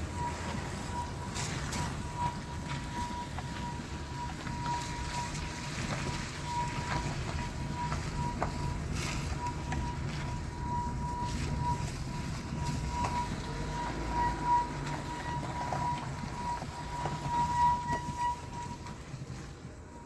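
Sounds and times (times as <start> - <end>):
drum brakes whistling: 0.0 - 19.3
road and tyre rumble: 0.0 - 20.0.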